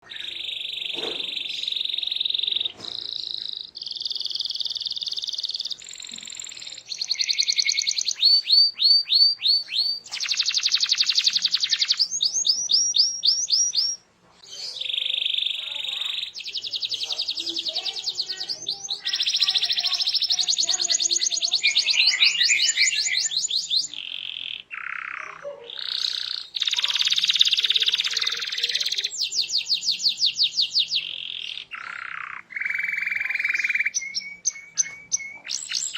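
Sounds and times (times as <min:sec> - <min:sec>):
canary singing trills: 0:00.0 - 0:35.9.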